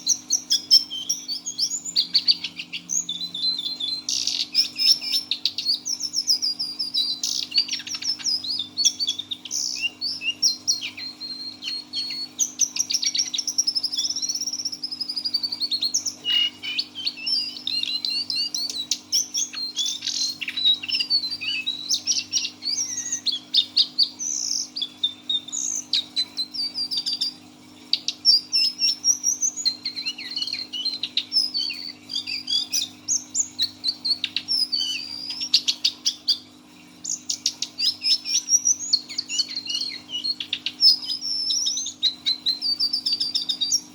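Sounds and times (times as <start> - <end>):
bird singing fast high trills: 0.0 - 43.9.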